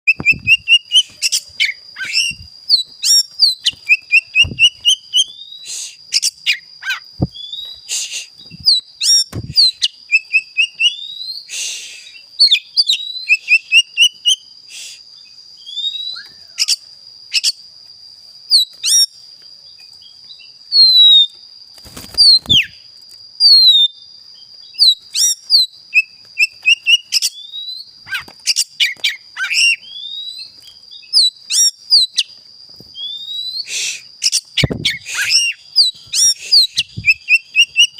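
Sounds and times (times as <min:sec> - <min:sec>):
songbird whistling and chirping: 0:00.1 - 0:17.6, 0:18.5 - 0:21.4, 0:22.1 - 0:37.9.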